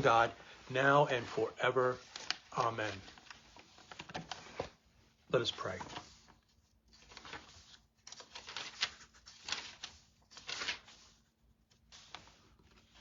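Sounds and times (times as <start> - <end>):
rustling and scraping of handled objects: 0.0 - 13.0.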